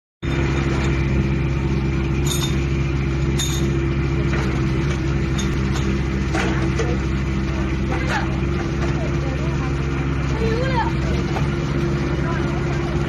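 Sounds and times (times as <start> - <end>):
diesel excavator engine running: 0.2 - 13.0.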